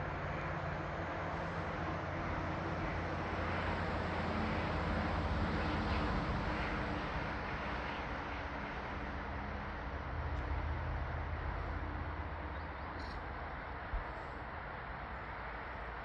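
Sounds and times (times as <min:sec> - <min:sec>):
constant low rumble: 0:00.0 - 0:16.0.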